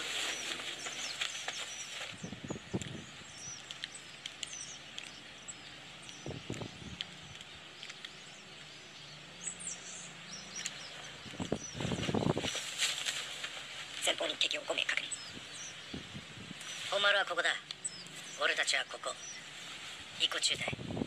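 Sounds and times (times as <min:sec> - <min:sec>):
steady hiss: 0:00.0 - 0:08.4, 0:09.8 - 0:21.0
birds chirping: 0:00.0 - 0:21.0.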